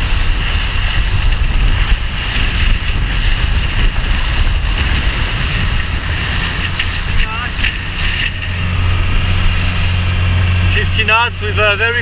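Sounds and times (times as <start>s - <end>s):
outboard motor whine: 0.0s - 12.0s
water rushing along hull: 0.0s - 12.0s
wind buffeting microphone: 0.0s - 12.0s.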